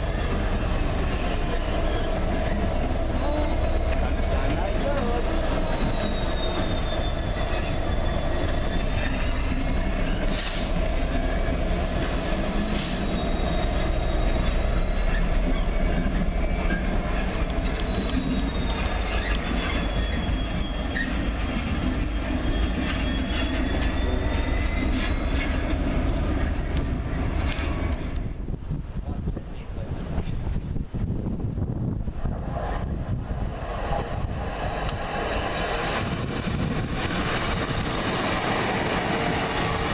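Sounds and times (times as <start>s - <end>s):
train wheels squealing: 0.0s - 28.6s, 32.4s - 39.9s
low train rumble: 0.0s - 39.9s.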